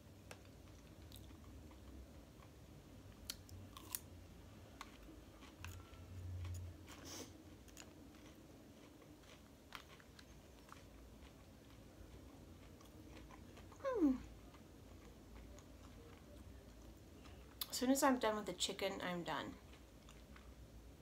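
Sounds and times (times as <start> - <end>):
chewing salad: 0.1 - 20.9.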